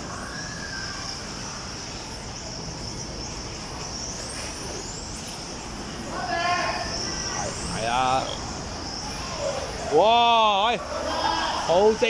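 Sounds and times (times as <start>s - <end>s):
insect chirr: 0.0s - 12.0s.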